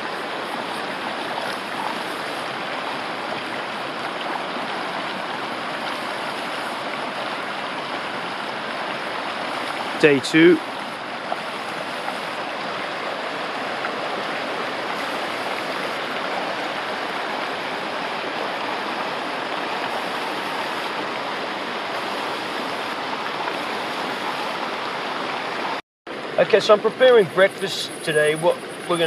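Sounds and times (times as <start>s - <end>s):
stream running over rocks: 0.0s - 29.0s.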